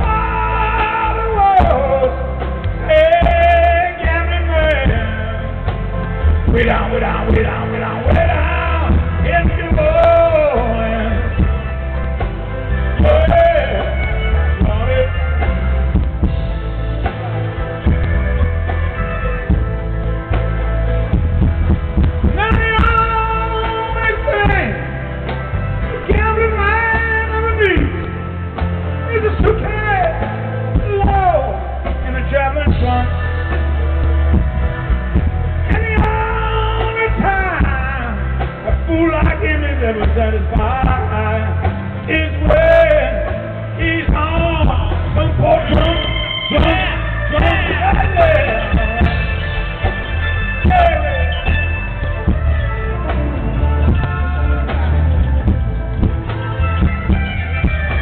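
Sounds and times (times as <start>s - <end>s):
lead singer singing: 0.0s - 16.4s, 21.9s - 58.0s
live rock band playing: 0.0s - 58.0s.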